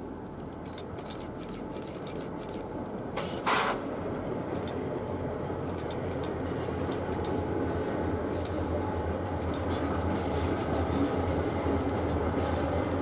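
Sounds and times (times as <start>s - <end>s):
distant train rumble: 0.0s - 13.0s.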